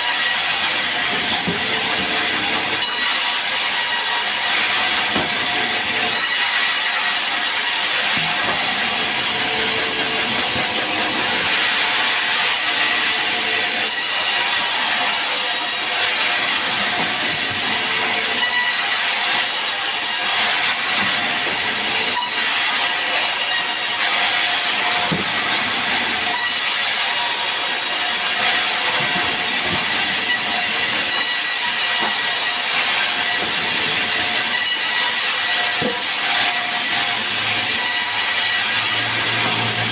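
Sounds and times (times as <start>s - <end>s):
saw cutting through wood: 0.0s - 39.9s.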